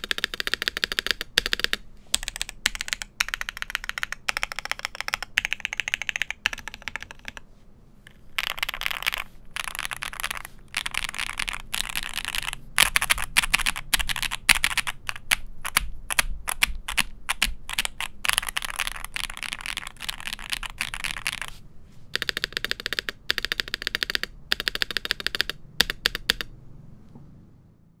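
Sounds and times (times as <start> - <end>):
fast typing on mechanical keyboard: 0.0 - 7.4, 8.1 - 26.5.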